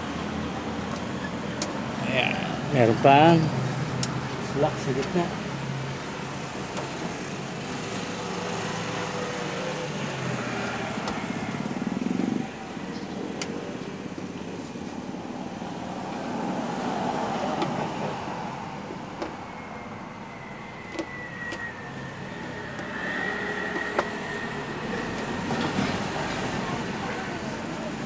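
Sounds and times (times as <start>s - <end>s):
passing traffic: 0.0s - 28.0s.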